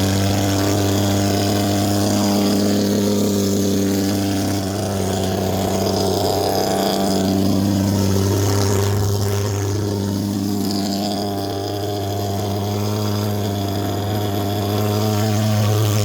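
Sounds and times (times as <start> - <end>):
fogging machine droning: 0.0 - 16.0.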